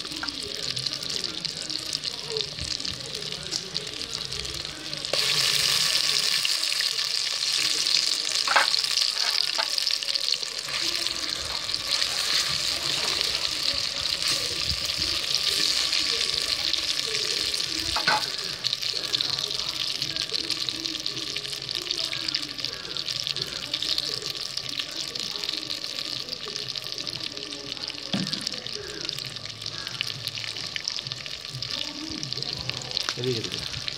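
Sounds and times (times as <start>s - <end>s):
chicken deep-frying in oil: 0.0s - 33.9s.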